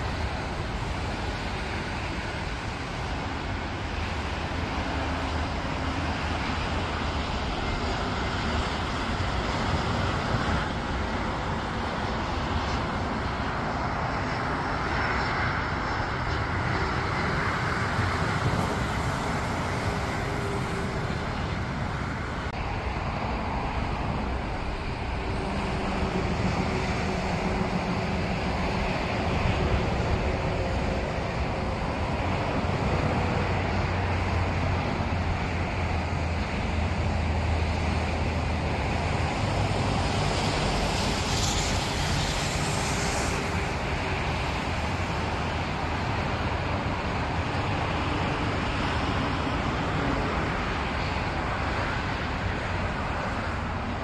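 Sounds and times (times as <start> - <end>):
jet engine rushing: 0.0 - 54.0.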